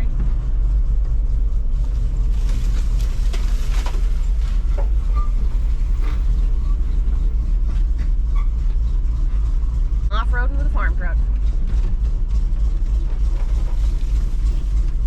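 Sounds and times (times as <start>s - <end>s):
truck engine rumbling: 0.0s - 15.0s
truck rattling and knocking: 0.0s - 15.0s.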